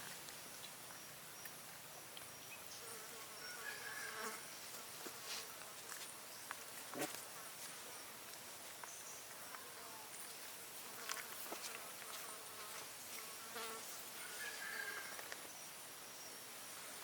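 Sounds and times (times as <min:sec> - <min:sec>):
insects buzzing and chirping: 0:00.0 - 0:17.0.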